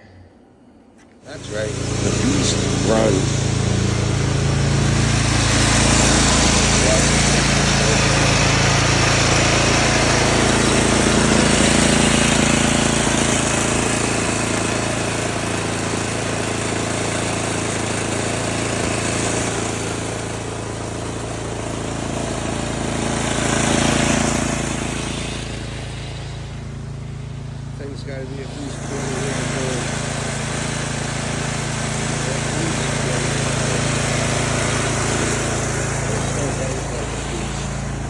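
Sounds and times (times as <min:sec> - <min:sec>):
snowblower engine running: 0:01.0 - 0:38.0.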